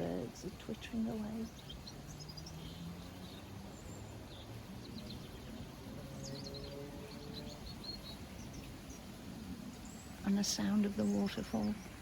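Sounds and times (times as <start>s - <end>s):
small birds twittering: 0.0s - 12.0s.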